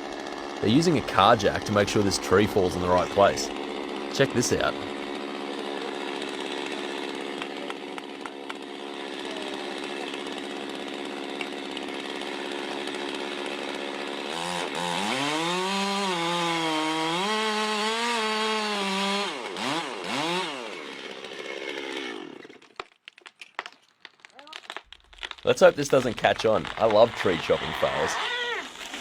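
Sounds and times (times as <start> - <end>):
chainsaw cutting tree: 0.0 - 23.3, 24.0 - 29.0.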